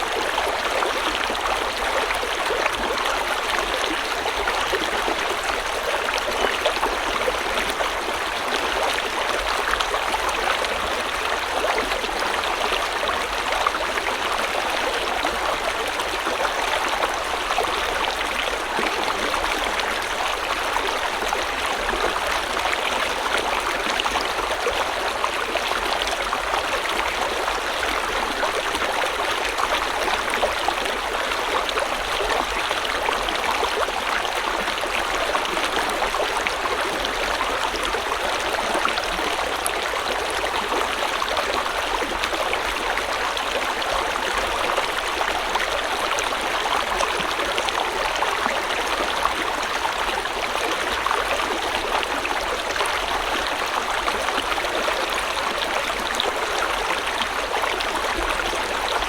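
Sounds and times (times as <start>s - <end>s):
stream water rushing and babbling: 0.0s - 59.0s.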